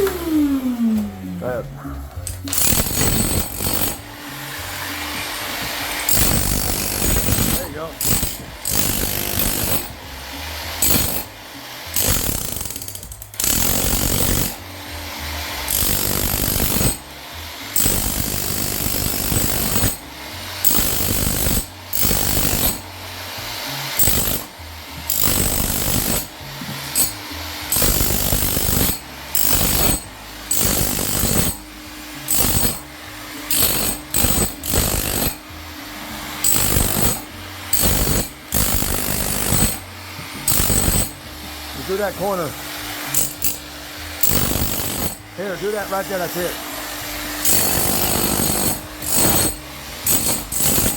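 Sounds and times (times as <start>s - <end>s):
jackhammer bursts: 0.0s - 50.9s.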